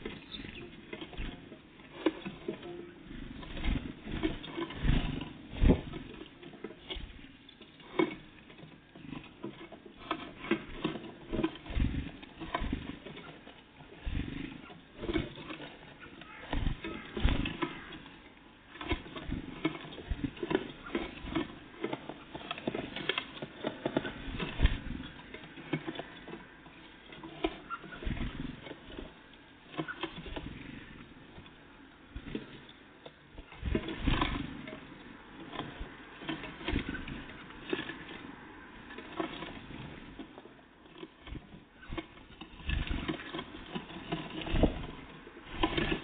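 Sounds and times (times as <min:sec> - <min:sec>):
birds pecking at a feeder: 0:00.0 - 0:46.0.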